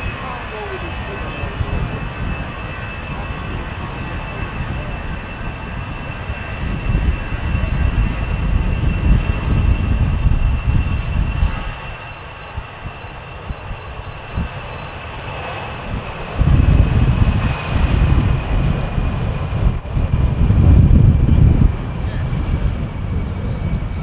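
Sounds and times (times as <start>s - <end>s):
deep engine rumble: 0.0s - 24.0s
jet engines whining: 0.0s - 24.0s.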